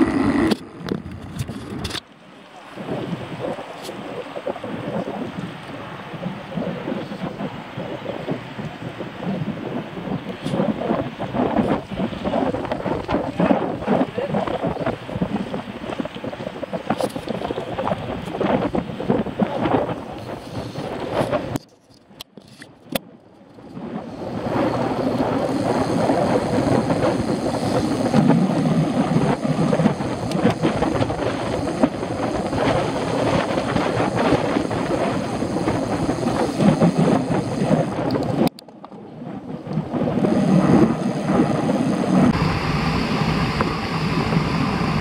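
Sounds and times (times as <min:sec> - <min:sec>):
wind and riding noise: 0:00.0 - 0:45.0.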